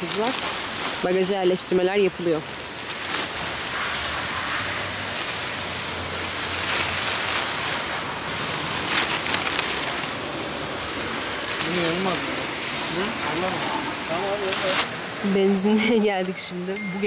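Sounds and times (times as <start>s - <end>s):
plastic bags rustling: 0.0s - 15.0s.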